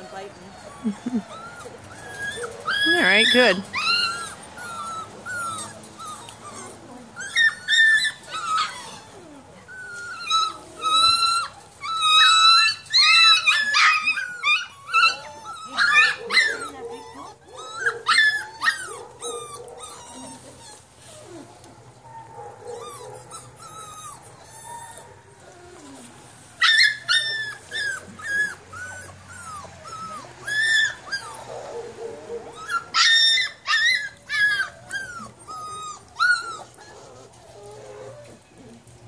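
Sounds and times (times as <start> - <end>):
puppy whining and yelping: 0.0 - 39.0.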